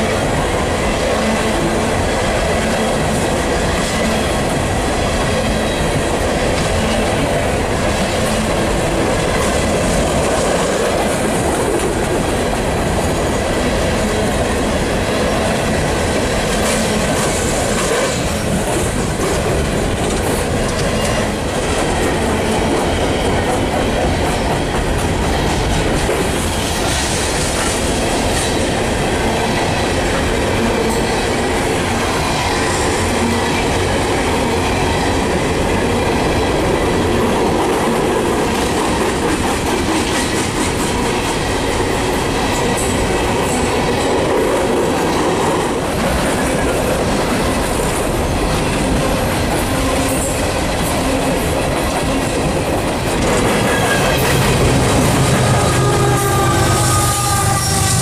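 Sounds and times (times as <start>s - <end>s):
steel wheels on rails: 0.0s - 58.0s.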